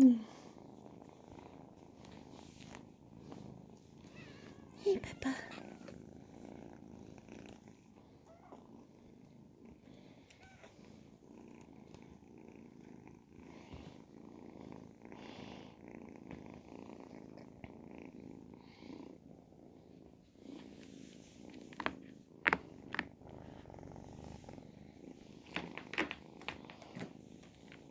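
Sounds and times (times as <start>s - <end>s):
kitten purring: 0.0s - 27.9s.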